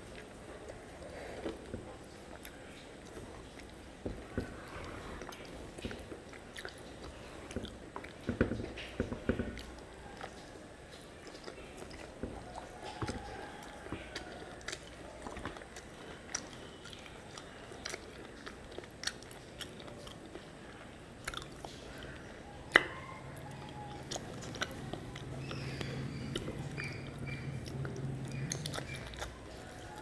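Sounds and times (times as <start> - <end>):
close-up chewing with wet clicks: 0.0 - 30.0.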